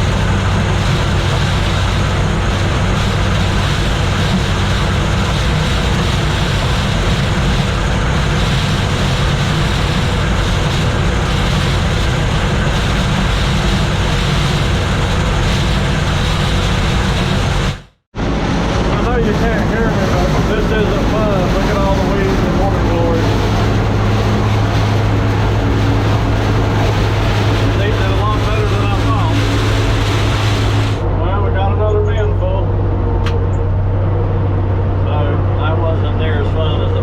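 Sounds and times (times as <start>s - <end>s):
threshing machinery clatter: 0.0s - 18.0s, 18.8s - 31.0s
combine engine hum: 0.0s - 37.0s.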